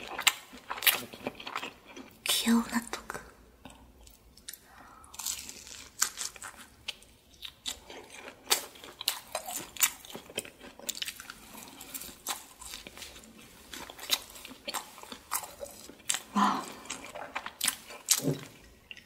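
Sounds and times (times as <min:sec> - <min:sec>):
chewing: 0:00.0 - 0:02.2, 0:03.6 - 0:19.0.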